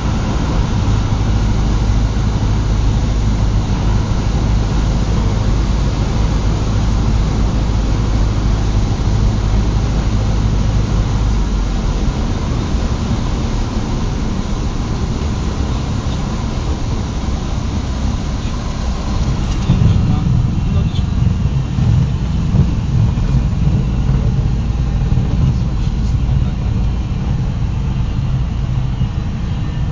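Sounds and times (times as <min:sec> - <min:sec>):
propeller plane engine drone: 0:00.0 - 0:29.9.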